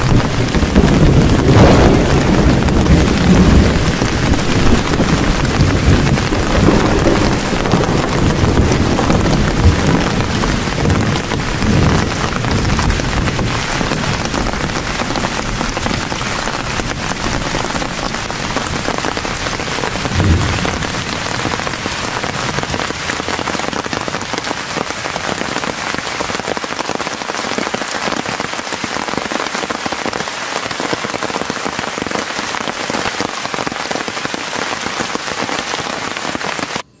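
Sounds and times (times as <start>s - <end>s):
rain on a tarp: 0.0s - 36.8s.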